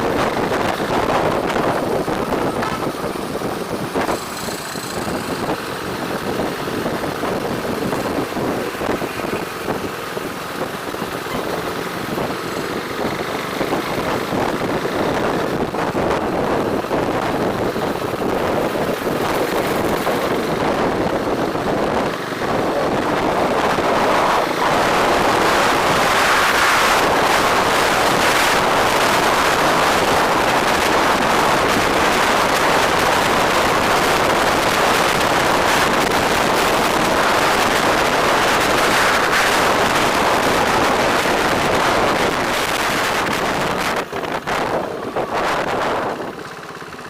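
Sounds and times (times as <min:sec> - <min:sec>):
wind rush on microphone: 0:00.0 - 0:46.5
vehicle and road noise: 0:00.0 - 0:47.0.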